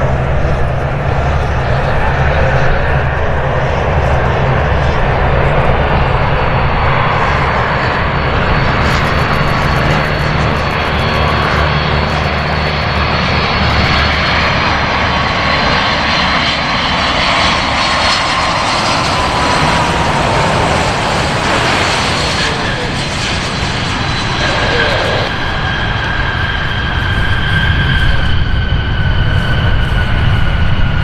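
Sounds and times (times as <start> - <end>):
jet engine roar with whine: 0.0 - 31.0.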